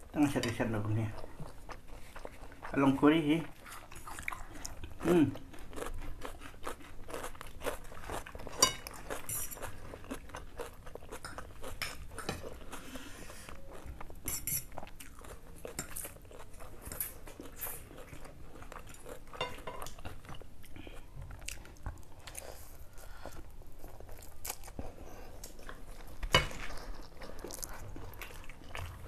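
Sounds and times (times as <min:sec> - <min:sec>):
chewing and slurping: 0:03.5 - 0:29.0.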